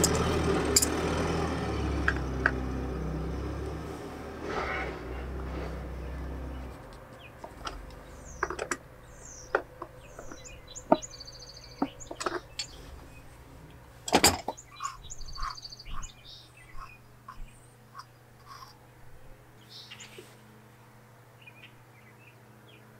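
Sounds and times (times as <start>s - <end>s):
birds chirping: 1.8s - 20.3s, 21.3s - 22.9s.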